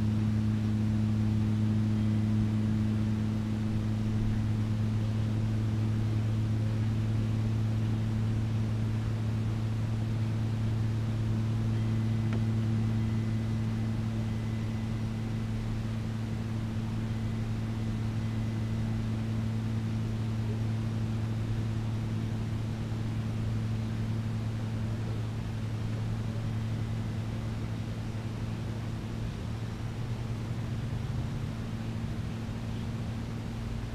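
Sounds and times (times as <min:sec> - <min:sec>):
low machine hum: 0:00.0 - 0:33.9.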